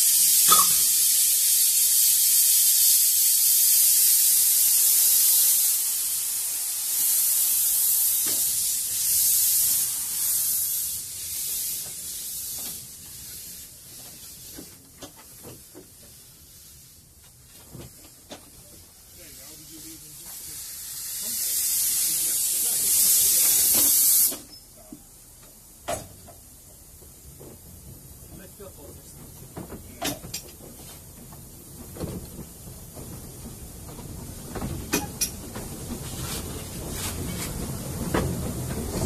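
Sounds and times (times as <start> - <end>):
steam hissing from locomotive: 0.0 - 39.0.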